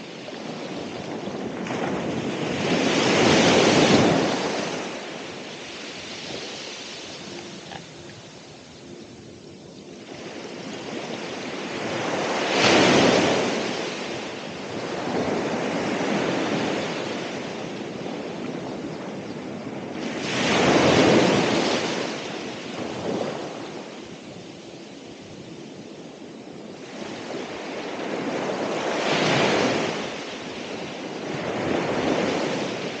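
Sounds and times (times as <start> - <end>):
ocean waves breaking on shore: 0.0 - 33.0.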